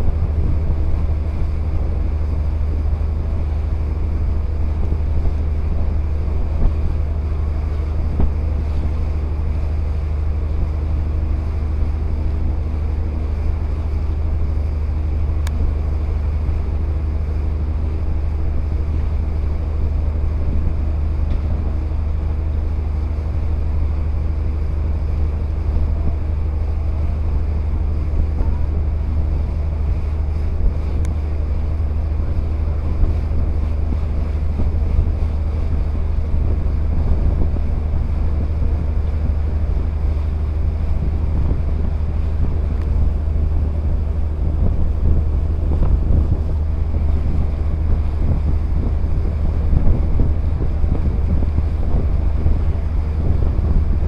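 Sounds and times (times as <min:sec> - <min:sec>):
boat engine humming: 0:00.0 - 0:54.0
water rushing past hull: 0:00.0 - 0:54.0
wind buffeting microphone: 0:00.0 - 0:54.0.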